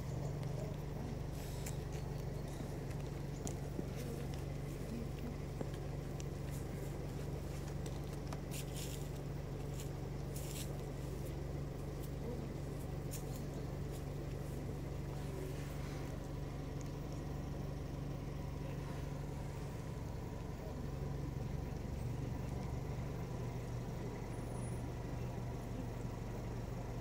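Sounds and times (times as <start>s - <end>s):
traffic drone: 0.0s - 27.0s.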